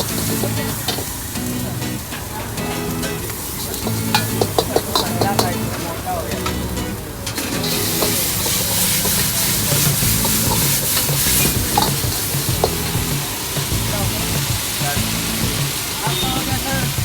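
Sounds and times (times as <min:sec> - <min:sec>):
spatula clinking against wok: 0:00.0 - 0:01.3, 0:01.9 - 0:17.0
noodles sizzling in a wok: 0:00.0 - 0:17.0.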